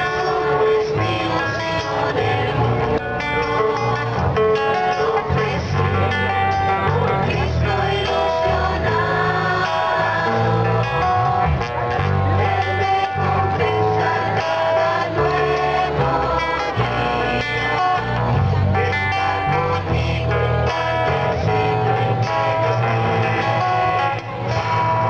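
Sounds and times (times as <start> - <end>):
choir singing in unison: 0.0 - 25.0
guitars: 0.0 - 25.0.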